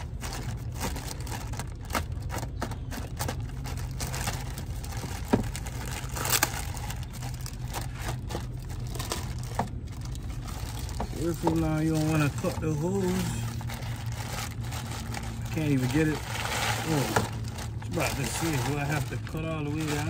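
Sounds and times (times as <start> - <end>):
plastic packaging crinkling: 0.0 - 20.0
steady low hum: 0.0 - 20.0.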